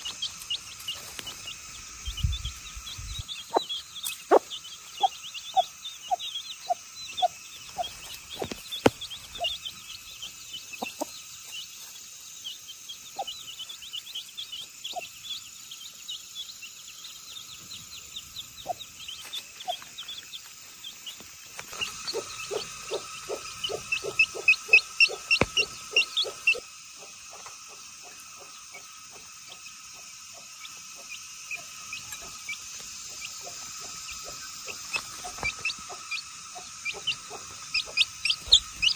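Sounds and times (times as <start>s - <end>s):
hen clucking: 0.0s - 12.0s, 18.3s - 38.9s
chicks peeping: 0.0s - 38.9s.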